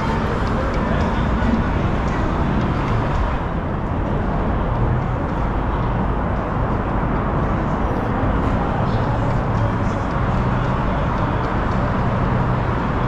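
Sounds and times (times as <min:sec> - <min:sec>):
vehicle and road noise: 0:00.0 - 0:13.0.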